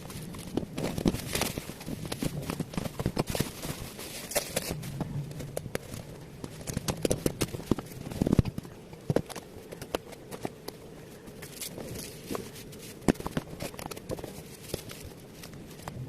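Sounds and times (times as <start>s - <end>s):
box and packaging handled: 0.0s - 16.0s.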